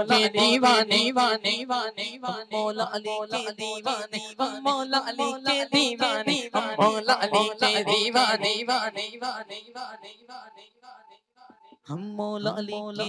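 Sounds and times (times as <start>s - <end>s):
man chanting through microphone: 0.0s - 10.2s, 11.9s - 13.0s.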